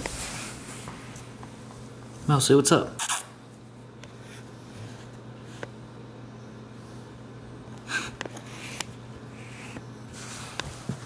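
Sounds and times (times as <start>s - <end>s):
faint low room hum: 0.0s - 11.0s.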